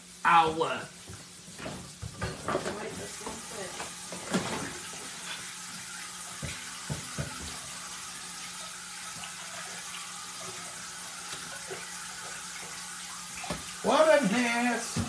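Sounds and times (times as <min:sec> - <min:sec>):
livers sizzling in oil: 0:00.0 - 0:15.0.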